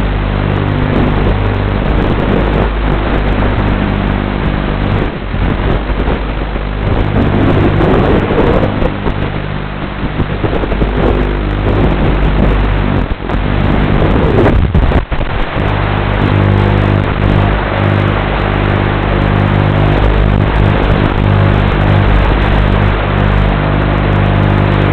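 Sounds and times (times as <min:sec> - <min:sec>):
drone propellers and wind noise: 0:00.0 - 0:24.9
steady buzzing hum: 0:00.0 - 0:24.9.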